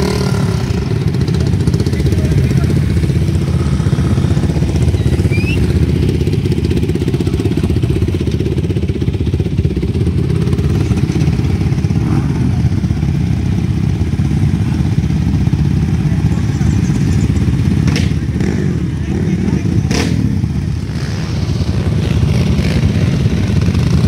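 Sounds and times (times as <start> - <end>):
engines idling: 0.0 - 24.0.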